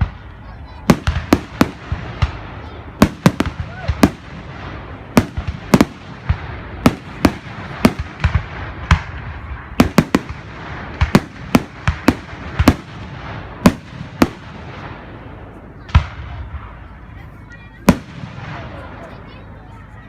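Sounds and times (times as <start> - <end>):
fireworks banging: 0.0 - 19.9.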